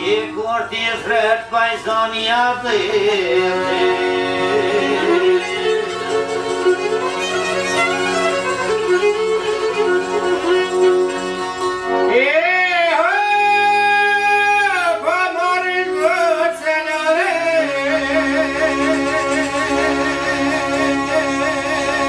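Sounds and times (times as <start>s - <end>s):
accordion: 0.0s - 22.0s
lutes: 0.0s - 22.0s
violin: 2.4s - 15.4s, 16.0s - 22.0s
folk ensemble playing: 2.8s - 15.0s, 16.0s - 22.0s.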